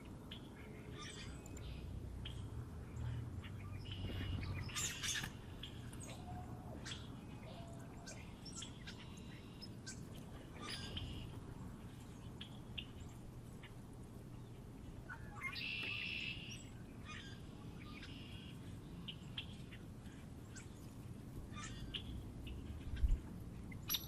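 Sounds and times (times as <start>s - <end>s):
low steady background rumble: 0.0s - 24.0s
small birds chirping: 0.0s - 24.0s.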